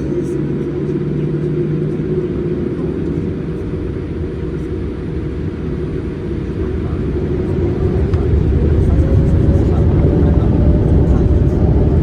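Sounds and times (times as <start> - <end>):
jet engine and airflow rumble: 0.0 - 12.0.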